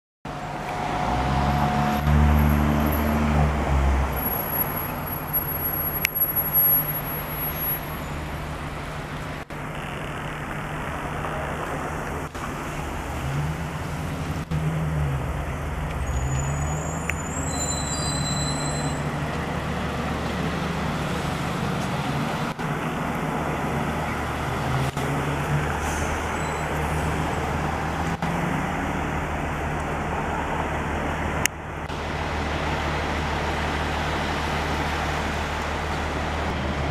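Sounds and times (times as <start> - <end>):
car and truck engines: 0.2 - 36.9
road noise: 0.2 - 36.9.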